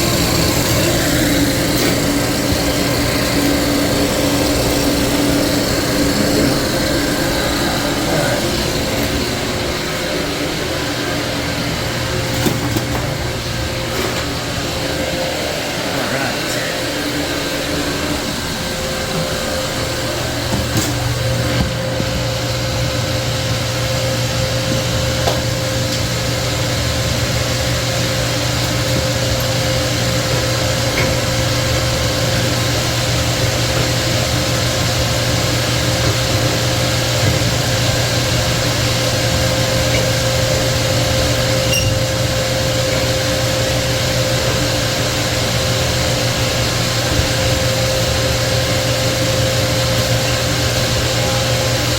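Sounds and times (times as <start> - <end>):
refrigerant recovery machine humming: 0.0 - 51.9.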